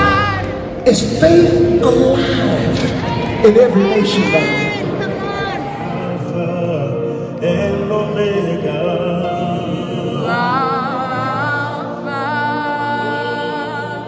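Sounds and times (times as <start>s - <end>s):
worship music with singing: 0.0s - 14.0s.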